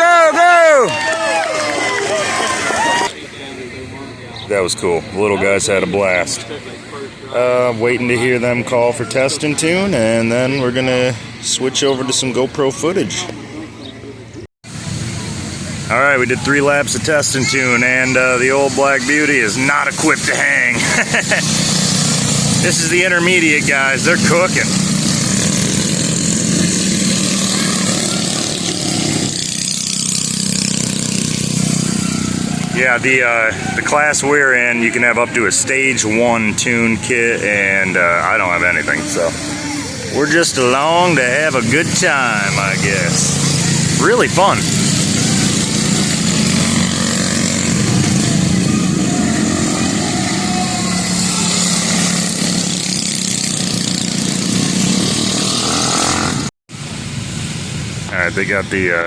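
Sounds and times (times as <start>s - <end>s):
mini bike engines droning: 0.0s - 59.0s.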